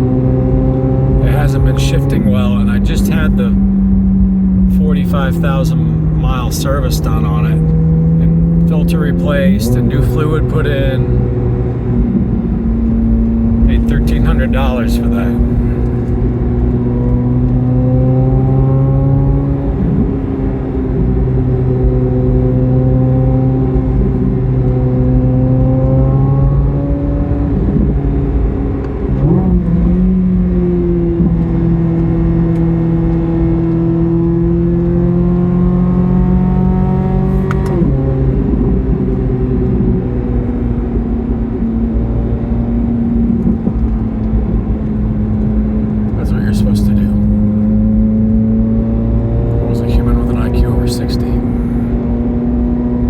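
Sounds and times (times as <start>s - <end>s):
car engine under load: 0.0s - 53.0s.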